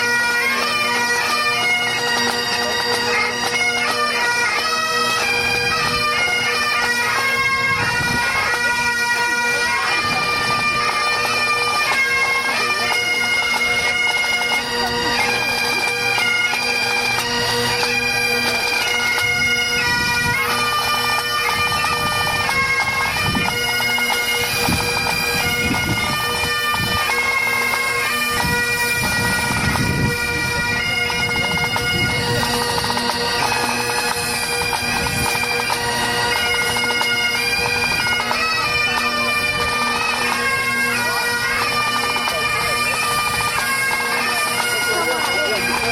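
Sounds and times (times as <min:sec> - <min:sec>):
bagpipe band playing: 0:00.0 - 0:45.9.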